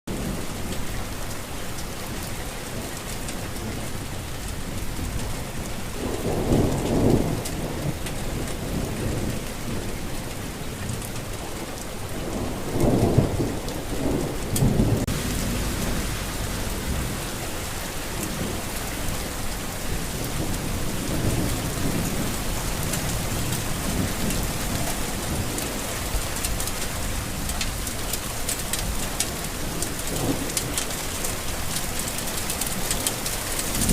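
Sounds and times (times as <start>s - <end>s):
steady rain: 0.1s - 33.9s
thunder rumbling: 0.1s - 33.9s.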